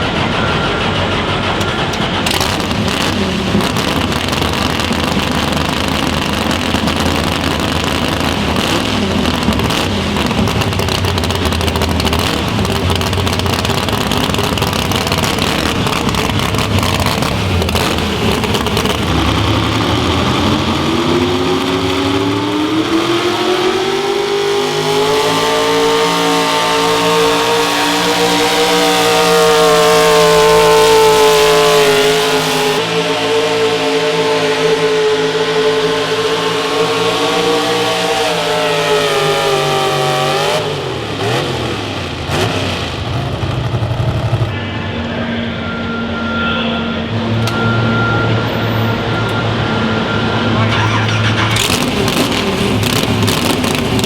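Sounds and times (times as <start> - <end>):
pulling vehicle engine running hard: 0.0 - 54.0.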